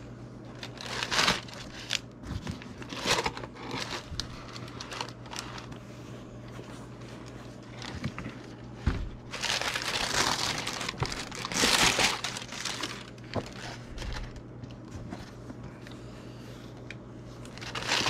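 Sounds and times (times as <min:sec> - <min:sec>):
steady low hum: 0:00.0 - 0:18.0
rustling and crinkling paper: 0:00.5 - 0:15.6, 0:17.2 - 0:18.0.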